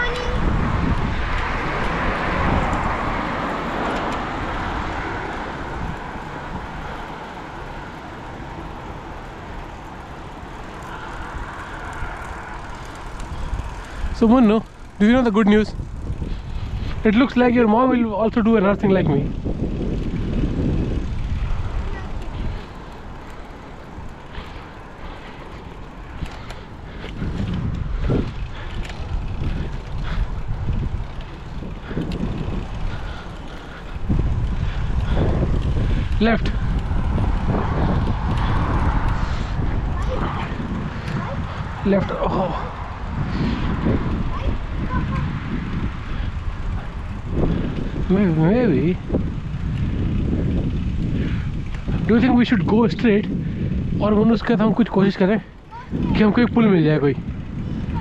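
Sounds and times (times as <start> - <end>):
outdoor road noise: 0.0 - 58.0
vehicle tyre noise passing: 0.0 - 58.0
wind buffeting microphone: 0.0 - 58.0.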